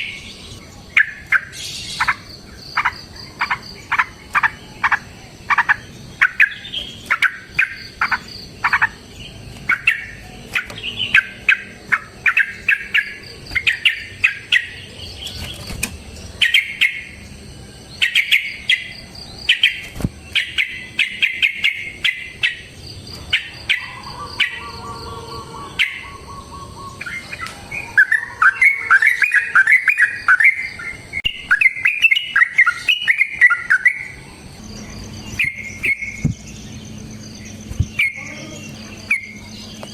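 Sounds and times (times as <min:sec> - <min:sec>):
bulbul singing chattering phrases: 0:00.0 - 0:39.9.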